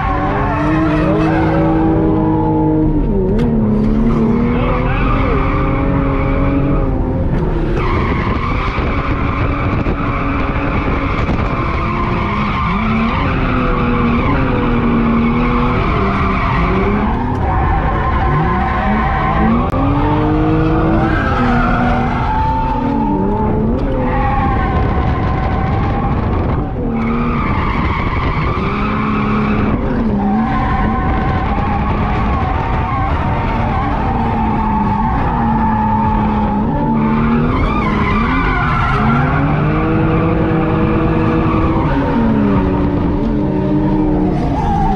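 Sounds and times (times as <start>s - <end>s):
car engine revving hard: 0.0s - 44.9s.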